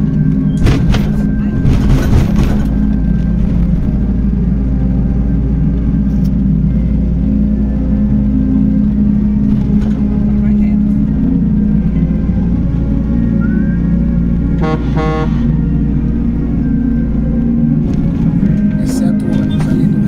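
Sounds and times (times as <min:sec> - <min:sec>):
road and wind noise: 0:00.0 - 0:20.0
vehicle engine humming: 0:00.0 - 0:20.0.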